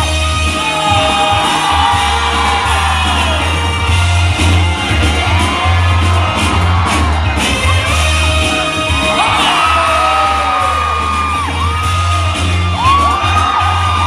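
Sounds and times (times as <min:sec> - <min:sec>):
breakbeat hip-hop music: 0:00.0 - 0:14.0
crowd whooping and cheering: 0:00.0 - 0:14.0.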